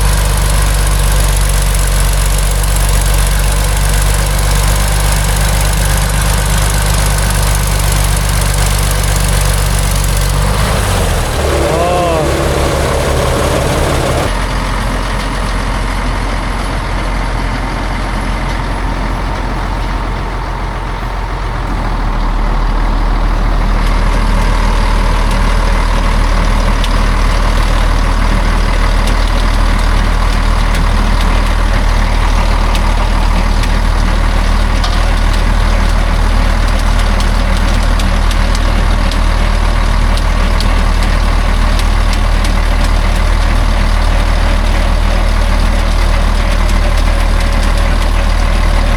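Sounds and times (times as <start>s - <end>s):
heavy truck engine running: 0.0s - 48.9s.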